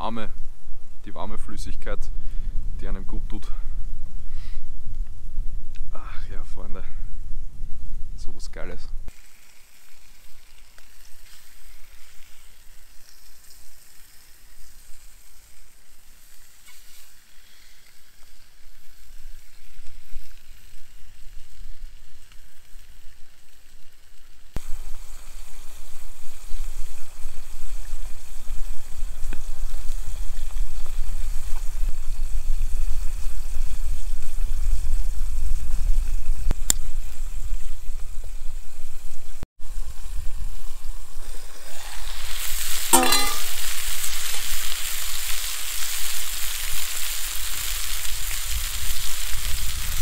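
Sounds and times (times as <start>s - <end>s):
sausages sizzling in pot: 9.1s - 50.0s.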